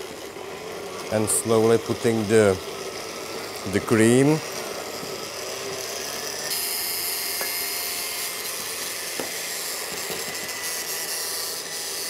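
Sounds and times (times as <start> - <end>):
blender motor whirring: 0.0 - 12.0.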